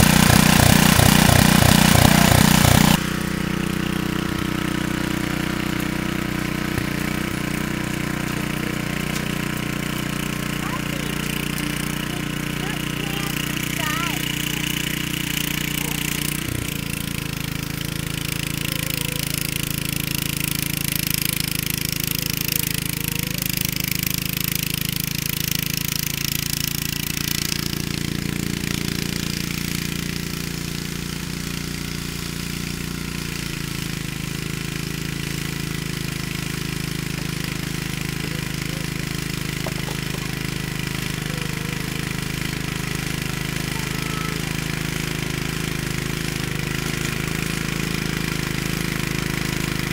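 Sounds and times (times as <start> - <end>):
tiller engine running under load: 0.0 - 49.9
tines churning through soil: 0.0 - 49.9.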